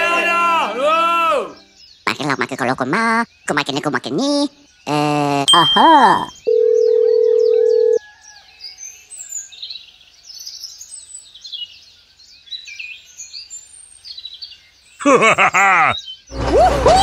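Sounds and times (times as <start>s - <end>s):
birds chirping: 0.0s - 8.4s, 10.4s - 17.0s.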